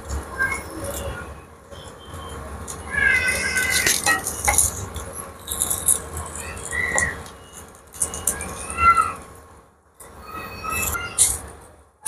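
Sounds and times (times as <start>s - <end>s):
high-pitched squeals: 0.2s - 9.3s, 10.1s - 11.5s.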